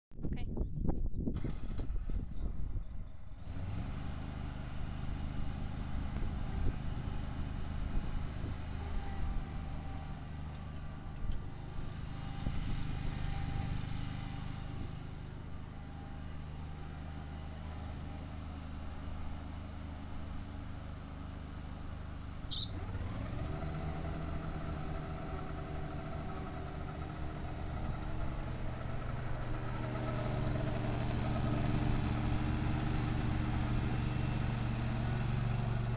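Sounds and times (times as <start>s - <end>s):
mower engine running: 1.4s - 35.9s.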